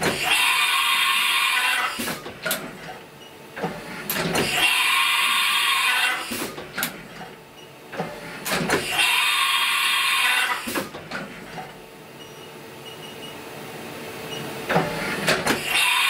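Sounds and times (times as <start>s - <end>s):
machine working in cycles: 0.0s - 16.0s.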